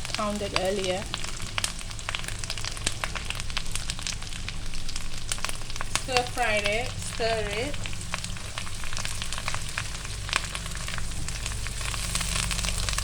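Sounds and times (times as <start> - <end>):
food sizzling in a pan: 0.0 - 13.0
low hum: 0.0 - 13.0.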